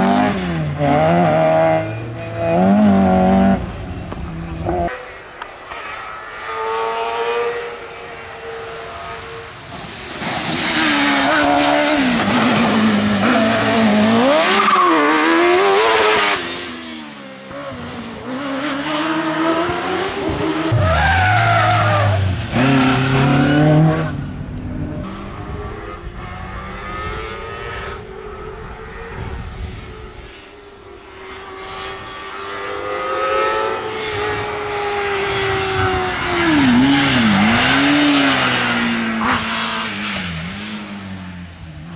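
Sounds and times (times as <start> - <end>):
racing car engines revving: 0.0 - 41.9.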